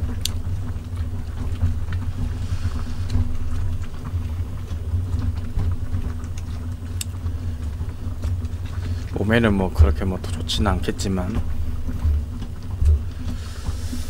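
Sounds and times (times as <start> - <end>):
gas stove flame rumbling: 0.0 - 14.0.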